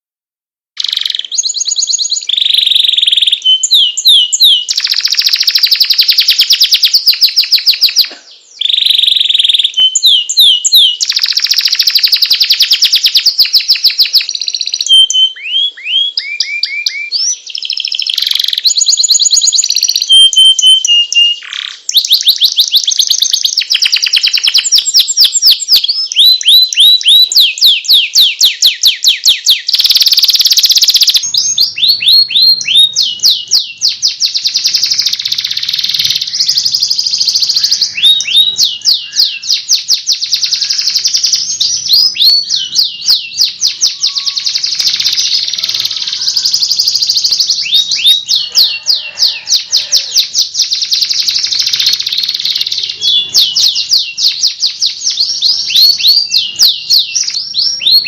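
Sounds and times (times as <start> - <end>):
canary singing trills: 0.8 - 58.0.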